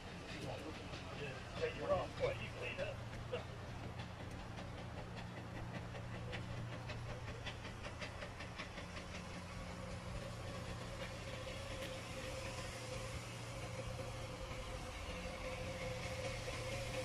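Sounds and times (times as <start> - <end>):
distant steam locomotive exhaust beats: 0.0 - 17.0.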